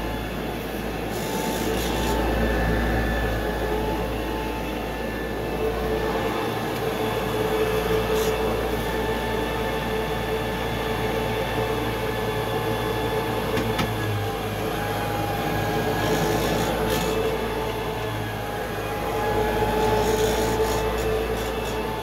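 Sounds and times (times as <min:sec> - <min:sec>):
vacuum cleaner running over carpet: 0:00.0 - 0:22.0.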